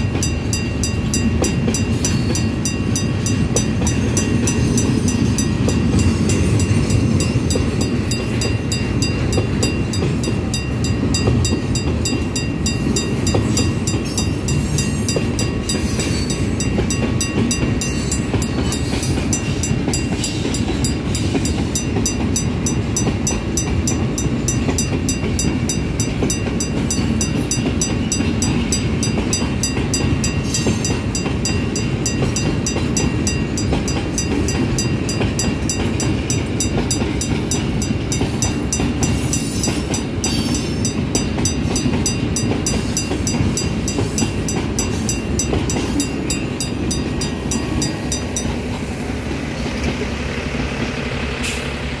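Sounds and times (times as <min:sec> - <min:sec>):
rail clicking: 0:00.0 - 0:51.6
train wheels rumbling on rails: 0:00.0 - 0:52.0.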